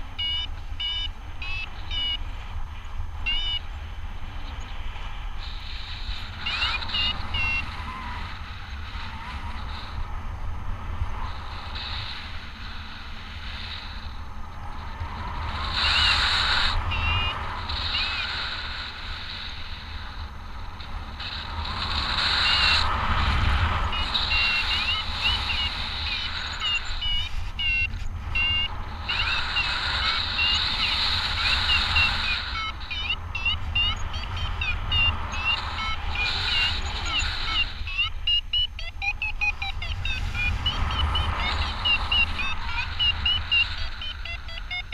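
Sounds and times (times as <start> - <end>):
high wavering chirping tones: 0.0 - 10.0, 11.1 - 22.9, 23.7 - 44.9
wind rushing over microphone: 0.0 - 44.9.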